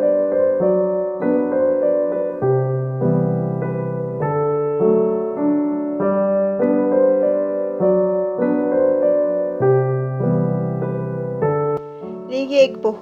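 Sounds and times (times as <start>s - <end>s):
gentle keyboard music: 0.0s - 13.0s.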